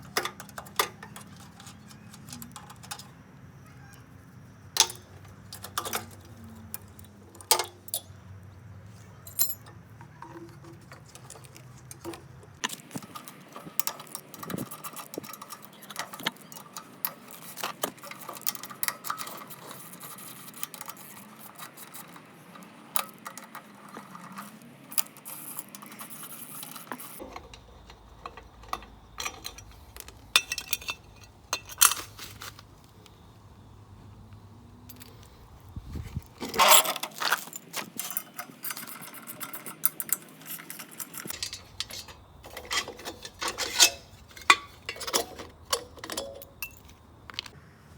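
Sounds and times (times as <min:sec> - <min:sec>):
metal tools clinking: 0:00.0 - 0:03.3, 0:04.8 - 0:08.2, 0:09.2 - 0:33.3, 0:34.8 - 0:47.6.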